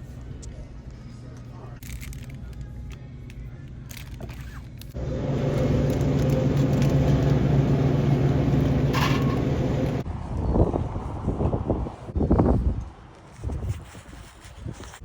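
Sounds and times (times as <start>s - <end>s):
mechanical hum with low drone: 0.0s - 13.1s.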